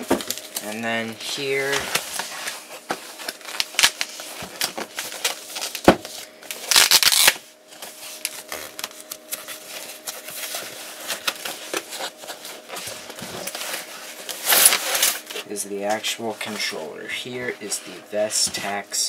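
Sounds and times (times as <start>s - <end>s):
rustling of wrapping: 0.0s - 16.8s.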